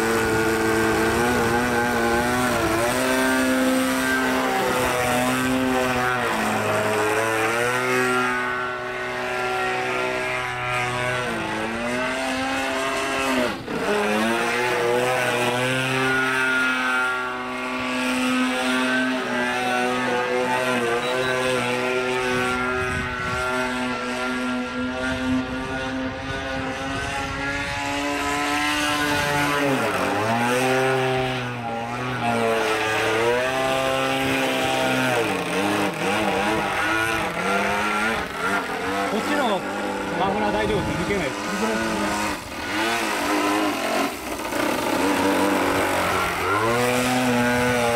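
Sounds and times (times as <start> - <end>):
model plane engine and propeller: 0.0 - 47.9.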